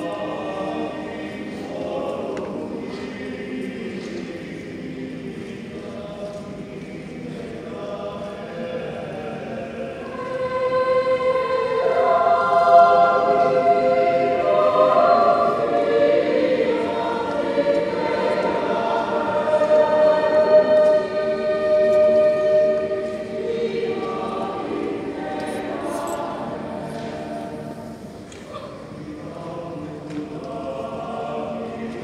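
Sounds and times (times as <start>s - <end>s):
choir singing long held notes: 0.0s - 32.0s.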